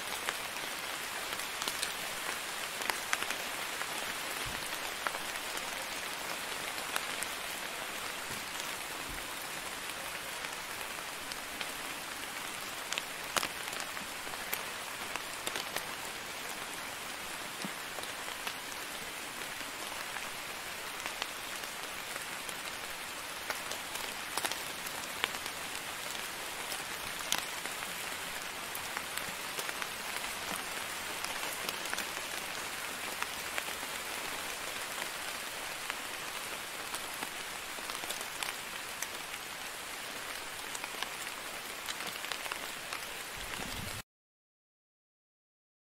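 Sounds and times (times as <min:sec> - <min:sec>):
steady rain hiss: 0:00.0 - 0:44.0.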